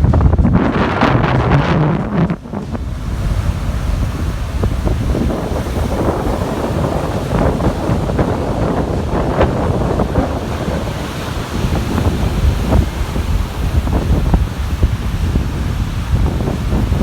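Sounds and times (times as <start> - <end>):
surf breaking on a beach: 0.0 - 17.0
wind buffeting microphone: 0.0 - 17.0.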